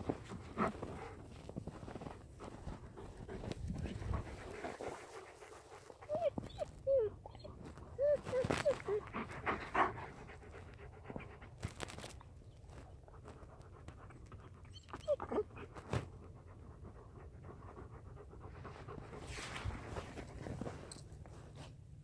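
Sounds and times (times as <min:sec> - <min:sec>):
dog panting: 0:00.0 - 0:11.6, 0:13.2 - 0:19.9.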